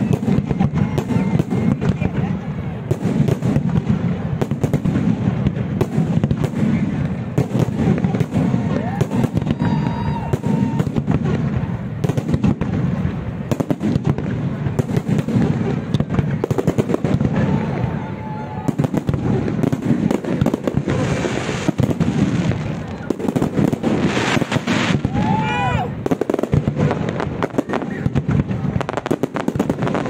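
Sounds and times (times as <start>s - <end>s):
firework crackling: 0.0s - 30.0s.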